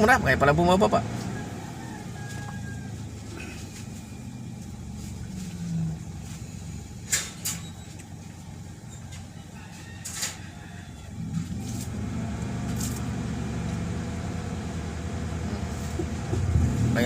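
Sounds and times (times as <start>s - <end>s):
car engine idling low: 0.0s - 17.0s.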